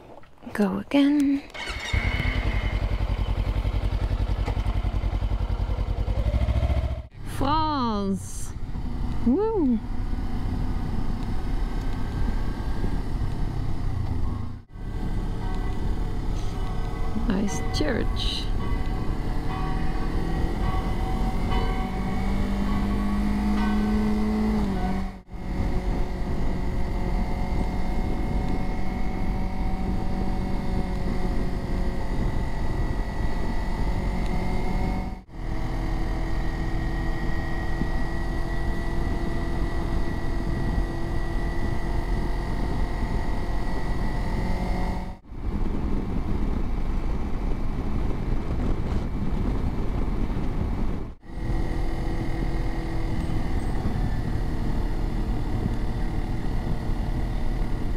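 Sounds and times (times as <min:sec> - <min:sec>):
motorcycle engine droning: 0:00.0 - 0:57.9
road and wind noise: 0:00.0 - 0:57.9.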